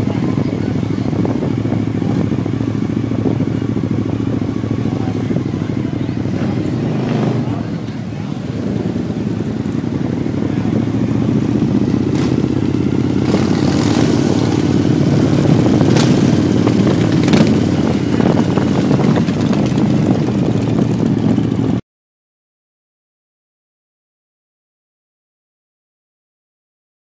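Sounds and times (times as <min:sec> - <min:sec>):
motorcycle engines rumbling past: 0:00.0 - 0:21.8.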